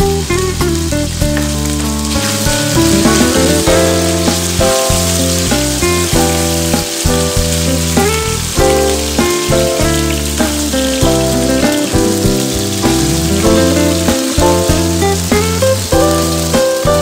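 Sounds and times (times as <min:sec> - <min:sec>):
background music: 0:00.0 - 0:17.0
chicken sizzling in oil: 0:00.0 - 0:17.0.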